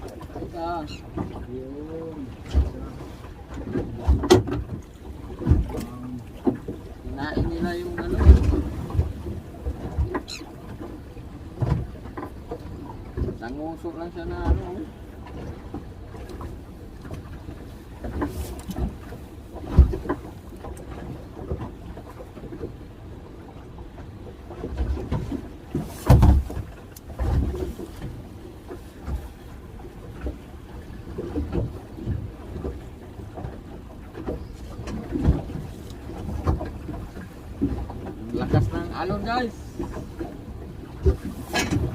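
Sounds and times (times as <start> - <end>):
boat knocks and thumps: 0.0 - 41.9
waves washing against hull: 0.0 - 41.9.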